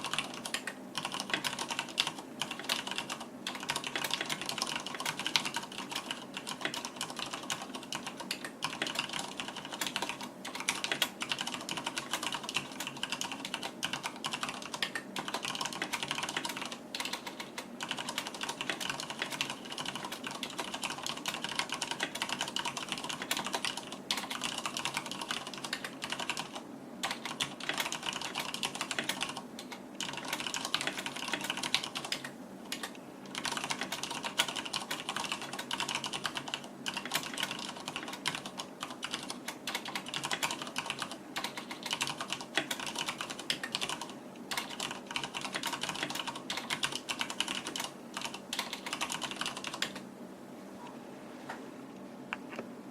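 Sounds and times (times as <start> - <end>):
fast mechanical keyboard typing: 0.0 - 50.0.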